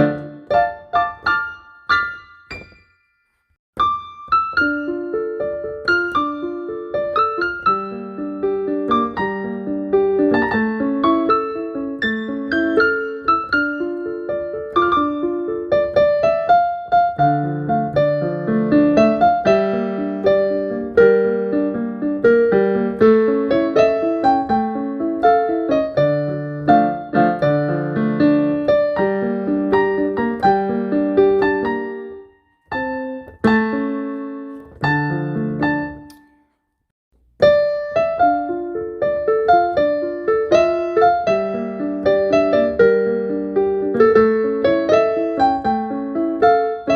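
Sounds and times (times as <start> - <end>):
solo piano melody: 0.0 - 46.9.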